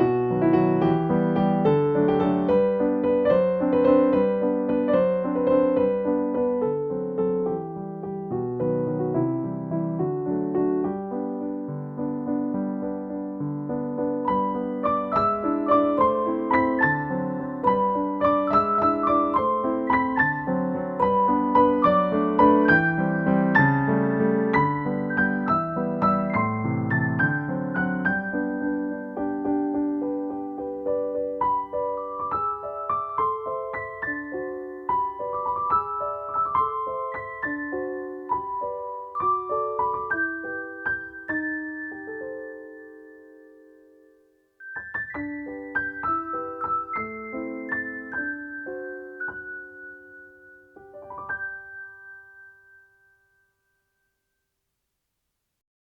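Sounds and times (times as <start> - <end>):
piano melody over chords: 0.0 - 53.4.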